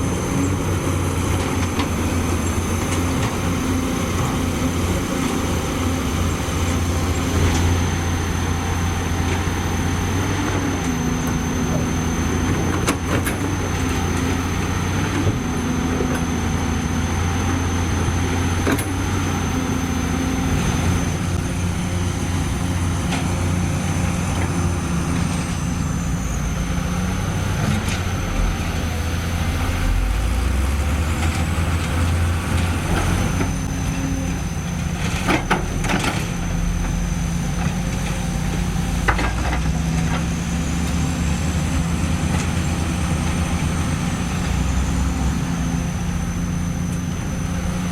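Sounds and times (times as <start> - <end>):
diesel machinery engine running: 0.0 - 47.9.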